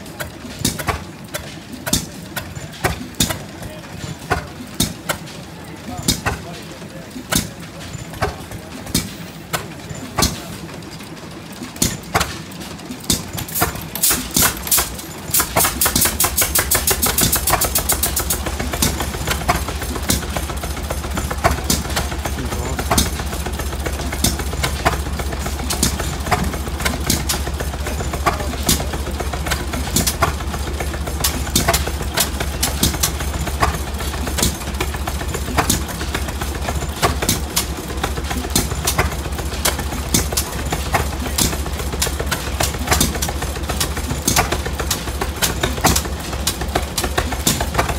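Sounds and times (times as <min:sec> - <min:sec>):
stationary engine exhaust pops: 0:00.0 - 0:05.4, 0:07.2 - 0:10.6, 0:11.6 - 0:47.9
engine rapid firing: 0:00.0 - 0:47.9.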